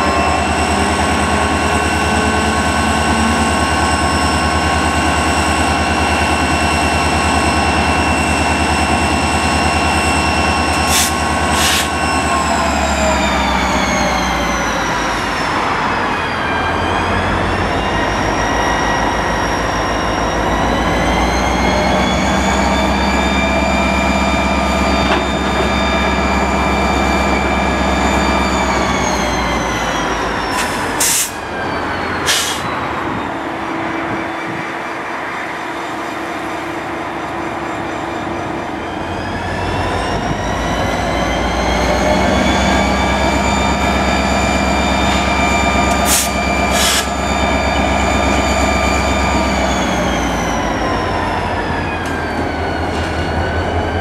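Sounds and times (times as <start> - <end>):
diesel locomotive engine whining: 0.0 - 54.0.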